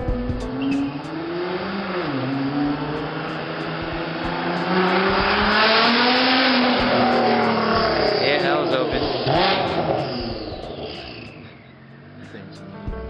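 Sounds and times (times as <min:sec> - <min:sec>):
loud car engine revving: 0:00.0 - 0:13.0.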